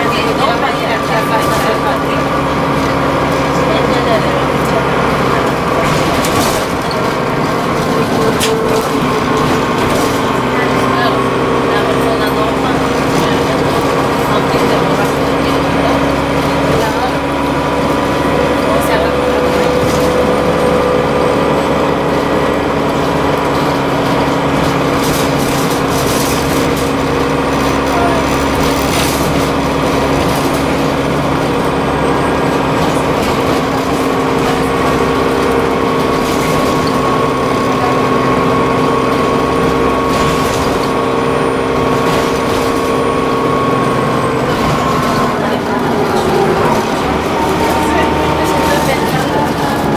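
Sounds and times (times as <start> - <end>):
bus engine drone with whine: 0.0 - 49.9.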